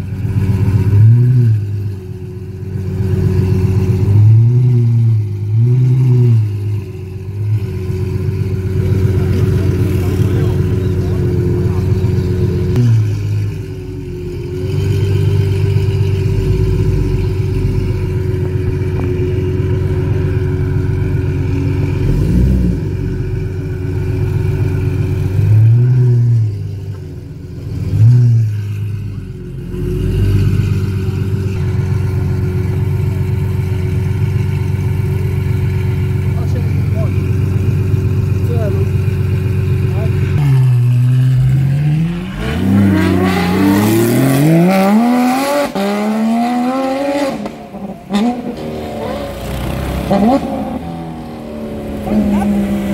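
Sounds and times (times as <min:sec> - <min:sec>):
sports car engine idling: 0:00.0 - 0:45.1, 0:47.0 - 0:52.9.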